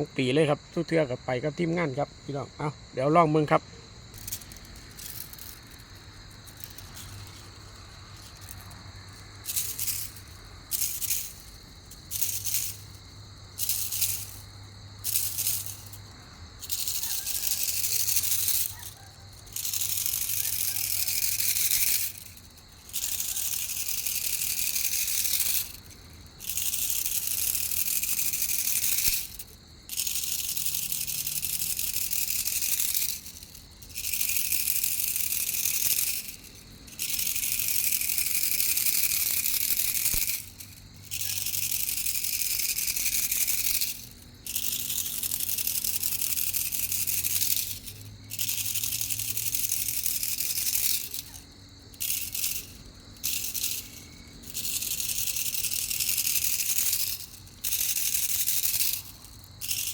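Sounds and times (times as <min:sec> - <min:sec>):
insect buzzing calls: 0:00.0 - 0:59.9.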